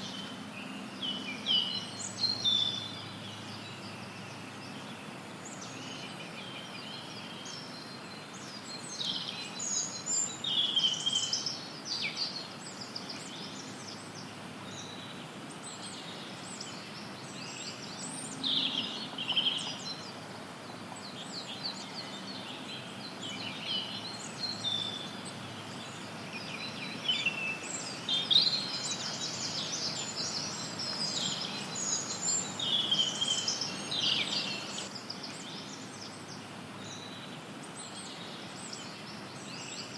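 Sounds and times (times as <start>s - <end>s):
forest birds chirping: 0.0s - 39.9s
white noise hiss: 0.0s - 39.9s.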